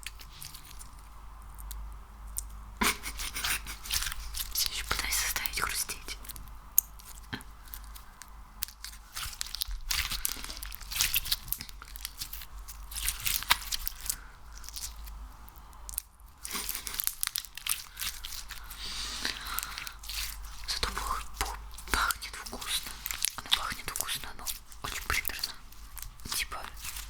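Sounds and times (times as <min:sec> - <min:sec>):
crackling slime being squeezed: 0:03.1 - 0:27.0.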